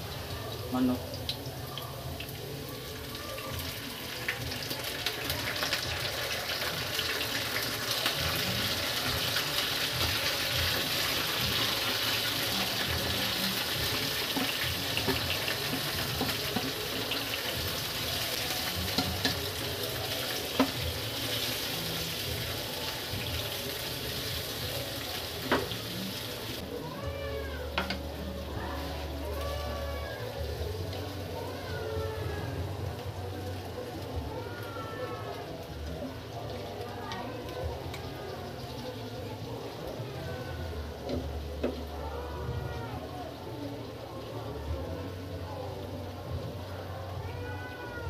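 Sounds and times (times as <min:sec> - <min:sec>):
chicken sizzling in frying pan: 0:00.0 - 0:46.7.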